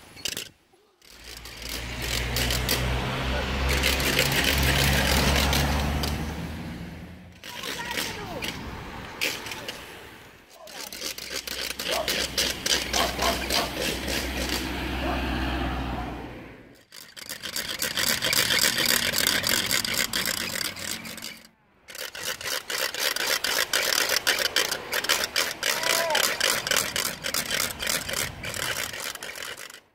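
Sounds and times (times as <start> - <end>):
wooden ratchet rattle clattering: 0.0 - 6.3, 7.3 - 8.6, 9.2 - 9.9, 10.5 - 14.8, 16.8 - 29.9.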